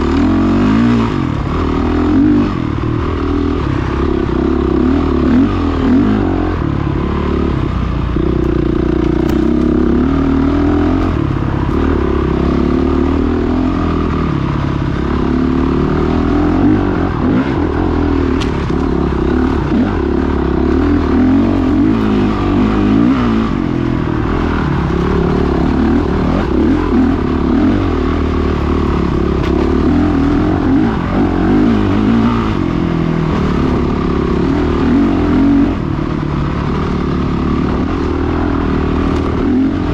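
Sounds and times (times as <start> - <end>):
off-road motorcycle engine revving: 0.0 - 39.9.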